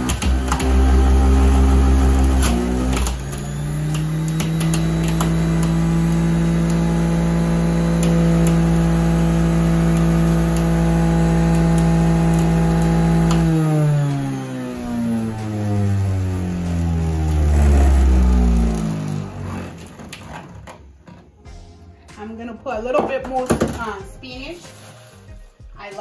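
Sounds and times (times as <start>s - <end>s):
juicer motor whirring: 0.0s - 21.3s.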